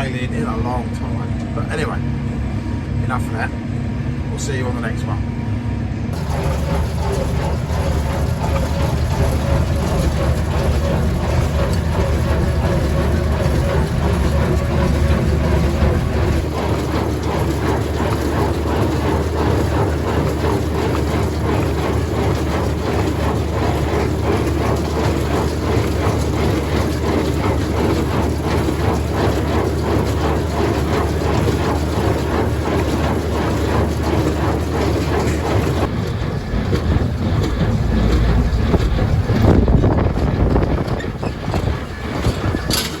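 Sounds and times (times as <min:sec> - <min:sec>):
fast rattle: 0:06.2 - 0:43.0
tractor engine running: 0:06.2 - 0:43.0.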